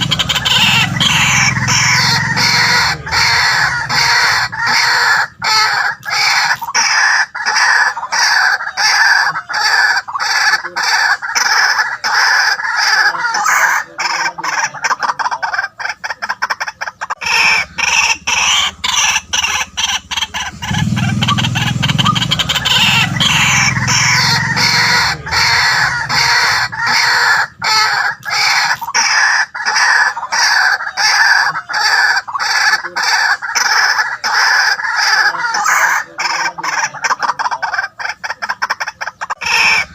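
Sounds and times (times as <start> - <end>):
waterhen calling harsh notes: 0.0 - 39.9.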